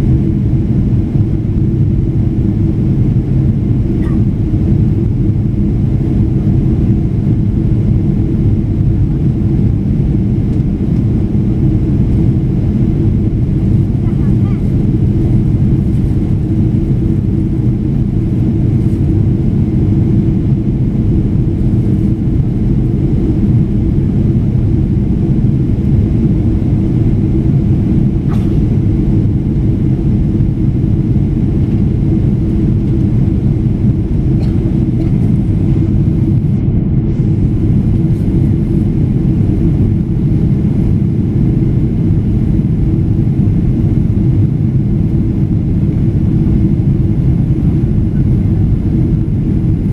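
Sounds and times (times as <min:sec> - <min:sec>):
airflow noise in cabin: 0:00.0 - 0:49.9
jet engine rumble: 0:00.0 - 0:49.9.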